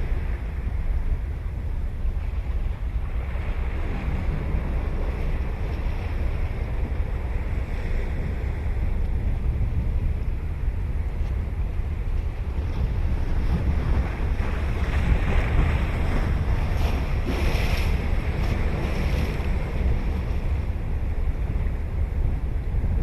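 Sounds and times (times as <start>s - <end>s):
ocean waves breaking: 0.0s - 23.0s
wind rumble on microphone: 0.0s - 23.0s.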